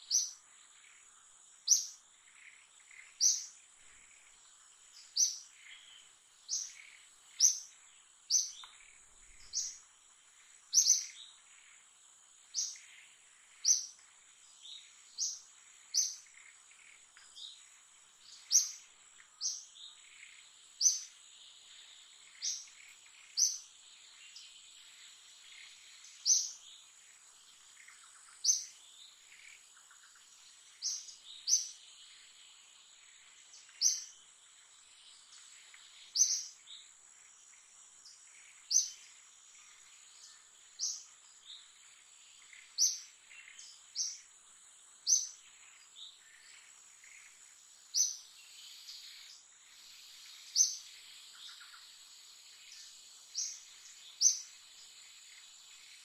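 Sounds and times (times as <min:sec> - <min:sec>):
faint background bird calls: 0:00.0 - 0:56.0.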